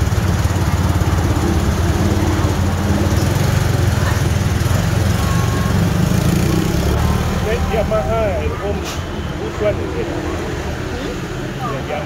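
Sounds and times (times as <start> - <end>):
small engine rumbling: 0.0 - 12.0.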